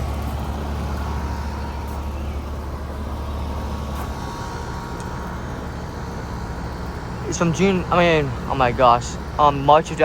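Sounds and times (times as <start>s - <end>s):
air conditioner hum: 0.0s - 10.0s
faint whine: 0.0s - 10.0s.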